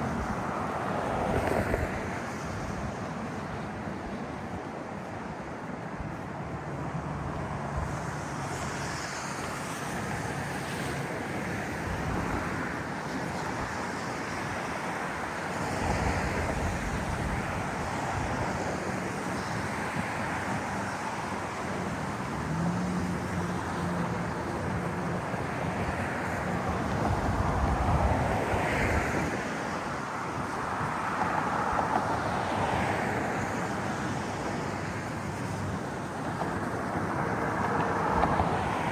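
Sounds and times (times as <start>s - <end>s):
city traffic: 0.0s - 38.9s
wind: 0.0s - 38.9s.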